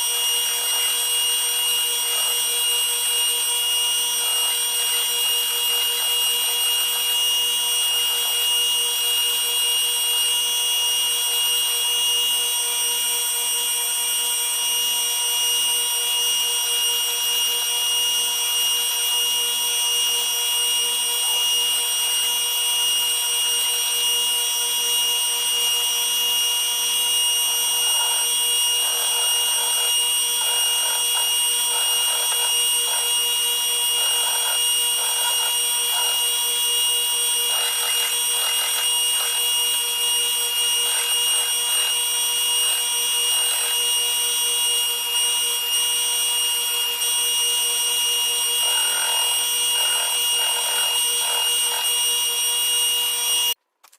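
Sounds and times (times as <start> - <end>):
power tool motor whining: 0.0 - 53.6.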